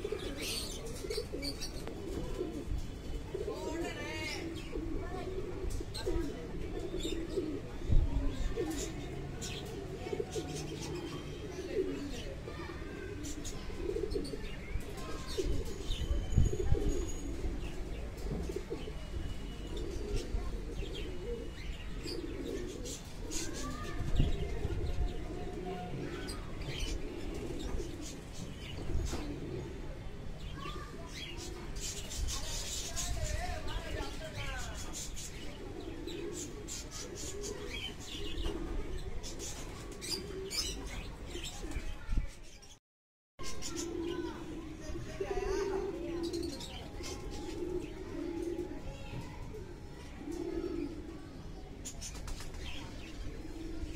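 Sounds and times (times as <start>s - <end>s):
pigeons cooing: 0.0s - 42.0s, 43.4s - 53.9s.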